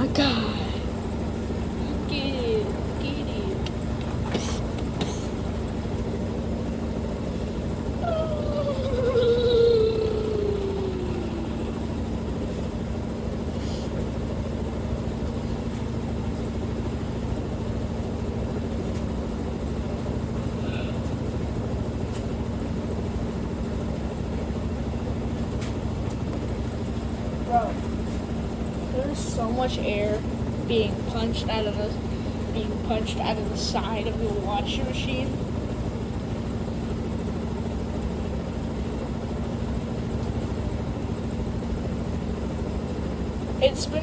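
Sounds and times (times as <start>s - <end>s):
washing machine spinning hum: 0.0s - 44.0s.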